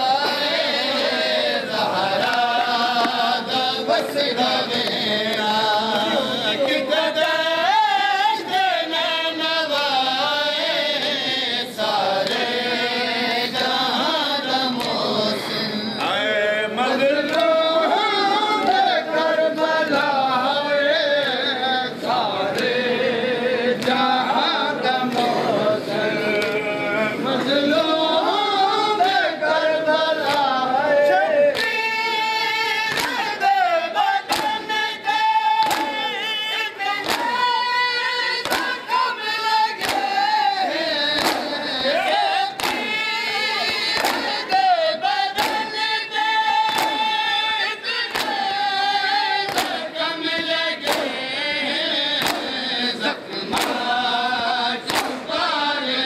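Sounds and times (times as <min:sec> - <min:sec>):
men chanting in chorus: 0:00.0 - 0:56.0.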